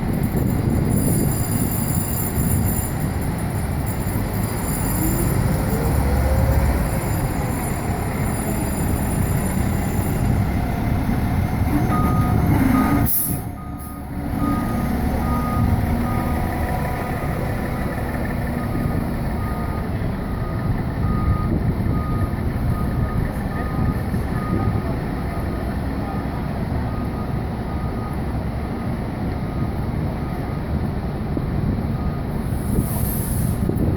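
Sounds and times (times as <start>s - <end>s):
fire engine diesel rumble: 0.0s - 33.9s
reversing alarm beeping: 0.8s - 30.5s.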